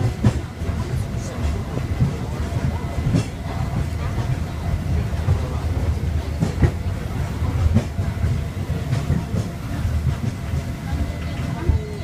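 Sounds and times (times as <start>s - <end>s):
funicular car rumbling uphill: 0.0s - 12.0s
wheels clacking on track: 0.0s - 12.0s.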